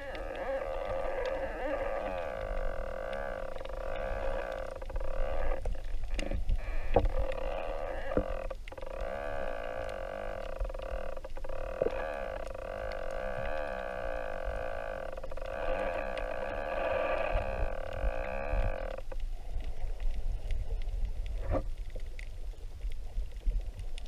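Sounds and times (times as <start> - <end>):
underwater droning hum: 0.0 - 24.0.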